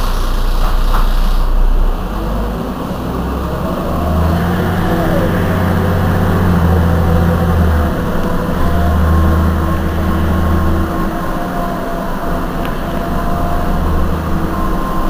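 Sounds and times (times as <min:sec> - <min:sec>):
bus diesel engine idling: 0:00.0 - 0:15.0.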